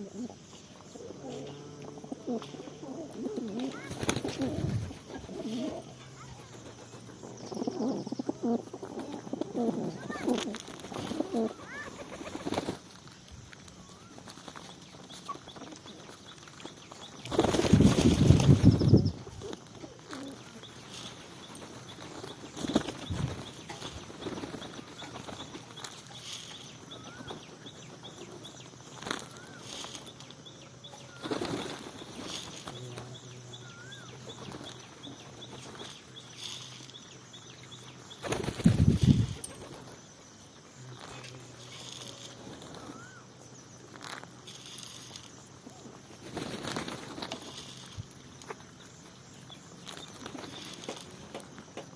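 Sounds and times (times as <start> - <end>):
birds flapping wings: 2.4 - 37.0, 38.0 - 40.1, 40.9 - 43.2, 43.8 - 51.9.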